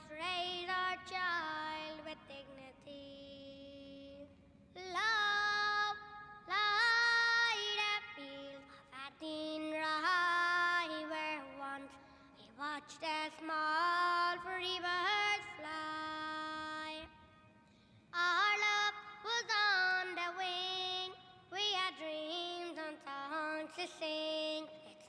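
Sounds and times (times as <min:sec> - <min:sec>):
woman singing unaccompanied: 0:00.0 - 0:17.2, 0:18.2 - 0:25.0.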